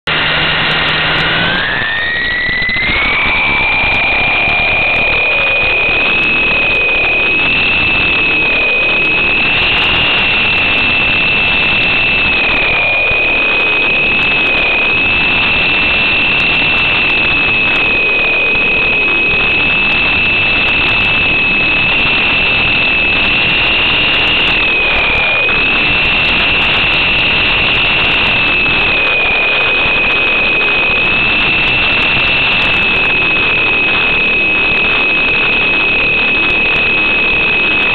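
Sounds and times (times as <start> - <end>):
high-pitched electric motor whine: 0.1 - 37.9.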